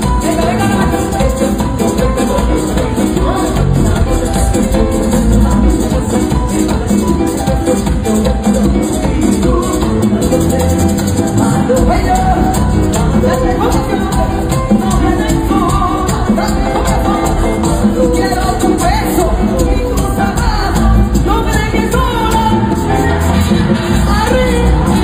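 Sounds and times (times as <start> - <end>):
merengue band with singing: 0.0 - 25.0.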